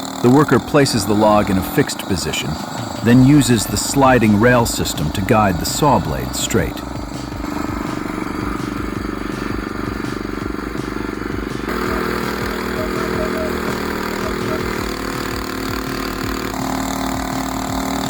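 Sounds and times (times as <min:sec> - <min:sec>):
small saw engine running: 0:00.0 - 0:18.0.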